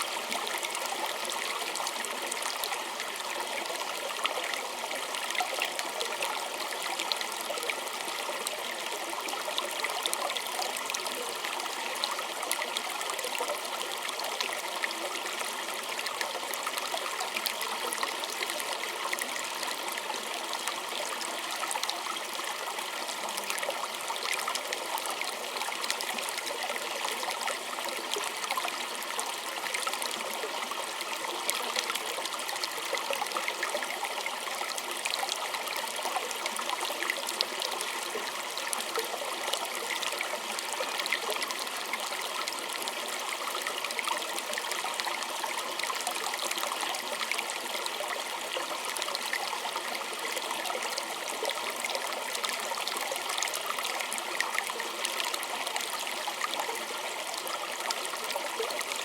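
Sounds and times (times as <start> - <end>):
stream trickling over stones: 0.0 - 59.0.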